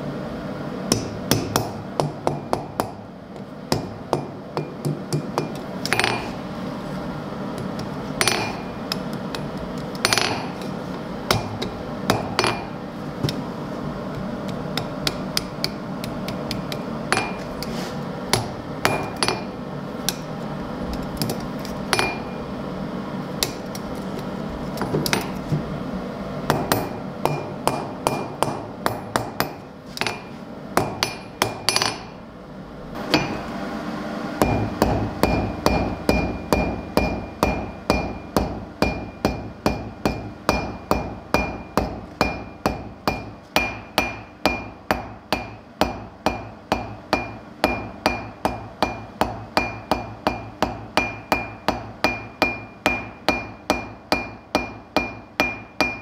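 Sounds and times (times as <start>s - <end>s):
hammer striking iron on anvil: 0.9s - 3.1s, 3.7s - 6.4s, 7.6s - 13.4s, 14.1s - 17.7s, 18.3s - 20.3s, 21.2s - 22.4s, 23.4s - 23.8s, 24.8s - 25.4s, 26.5s - 32.2s, 33.0s - 33.4s, 34.4s - 56.0s.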